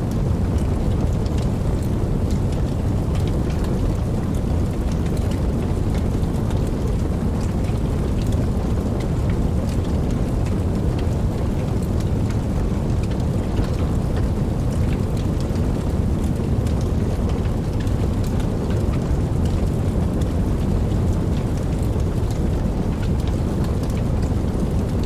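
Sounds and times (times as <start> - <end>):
rain drops ticking: 0.0 - 25.0
steady rain falling: 0.0 - 25.0.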